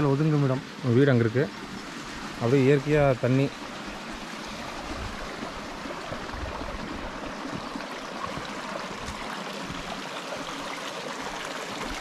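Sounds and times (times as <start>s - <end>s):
stream splashing over rocks: 0.0s - 12.0s.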